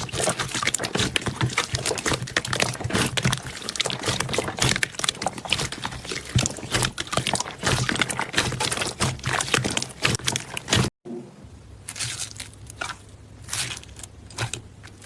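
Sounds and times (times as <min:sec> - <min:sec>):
slime squelching: 0:00.0 - 0:11.0, 0:11.8 - 0:15.0.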